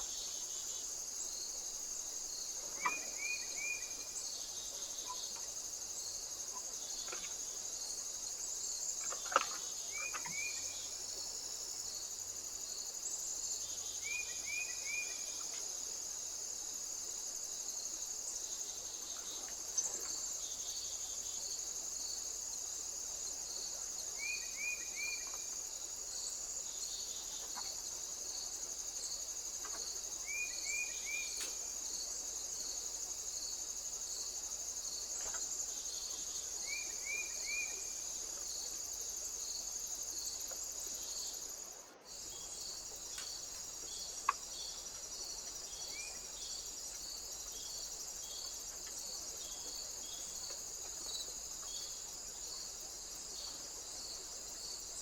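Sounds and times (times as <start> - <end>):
pulsing insect chirp: 0.0 - 55.0.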